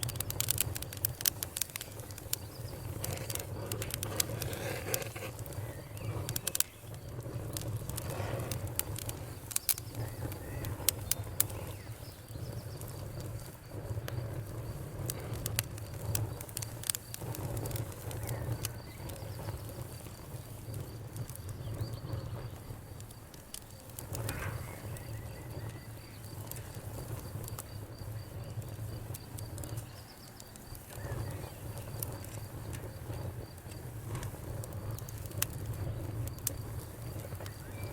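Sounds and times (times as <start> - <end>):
fire crackling and popping: 0.0 - 37.9
low rumble of flames: 0.0 - 37.9.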